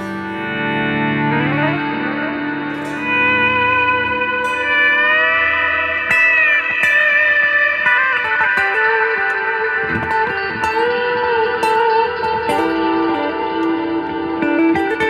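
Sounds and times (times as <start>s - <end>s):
electric guitar picked notes: 0.0s - 15.0s
guitar string bend: 0.0s - 15.0s.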